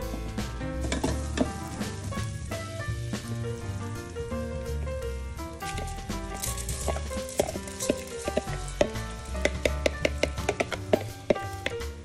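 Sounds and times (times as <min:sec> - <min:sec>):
swing music: 0:00.0 - 0:12.0.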